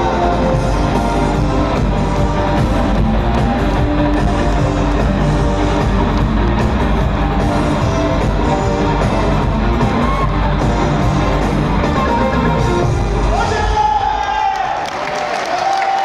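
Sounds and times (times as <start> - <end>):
rock band playing instrumental: 0.0 - 13.5.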